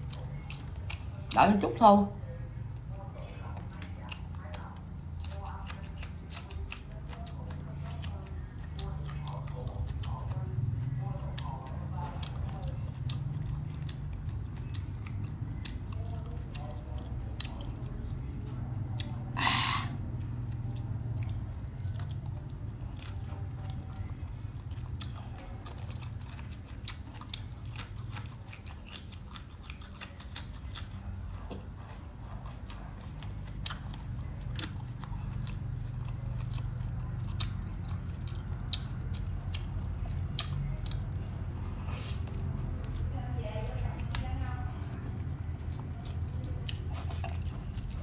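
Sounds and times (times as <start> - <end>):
person chewing and crunching: 0.0 - 48.0.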